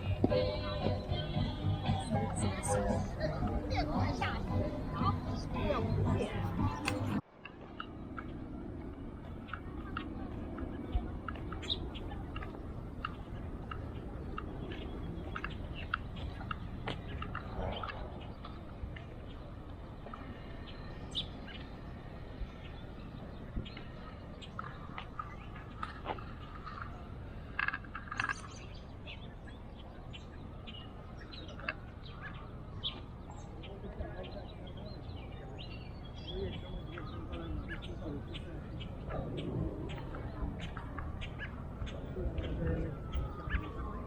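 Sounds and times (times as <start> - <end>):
small birds chirping: 0.0 - 44.0
steady low rumble: 0.0 - 44.0.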